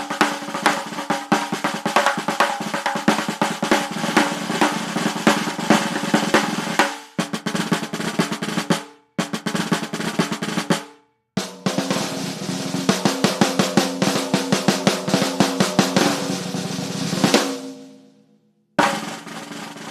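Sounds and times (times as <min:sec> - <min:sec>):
drum rolls: 0:00.0 - 0:17.9, 0:18.8 - 0:19.9.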